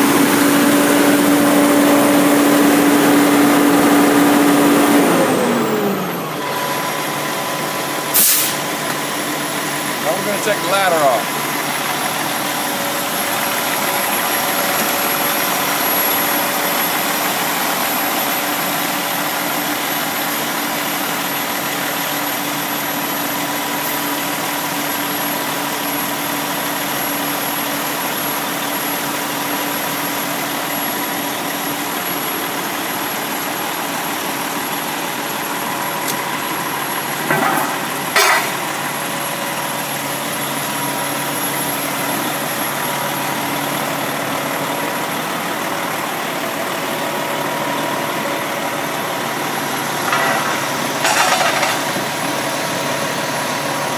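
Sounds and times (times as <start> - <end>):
diesel engine idling: 0.0 - 51.1, 51.8 - 53.9.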